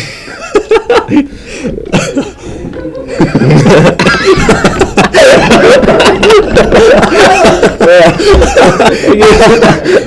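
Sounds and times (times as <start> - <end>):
boy laughing uncontrollably: 0.3 - 10.0.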